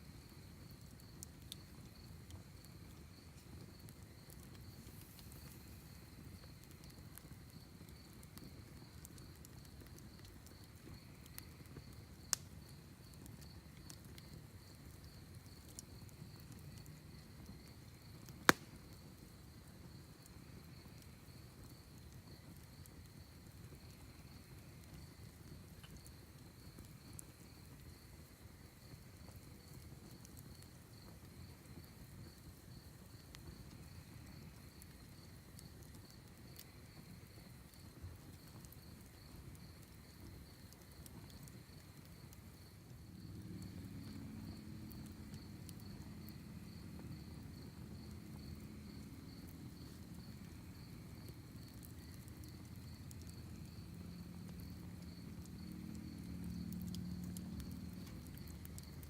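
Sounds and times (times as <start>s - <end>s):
crickets chirping: 0.1s - 59.0s
wood fire crackling pops: 0.2s - 59.0s.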